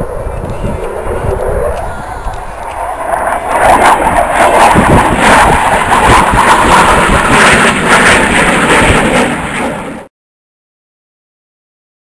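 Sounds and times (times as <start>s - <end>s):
fighter jet engine roar: 0.0s - 10.1s.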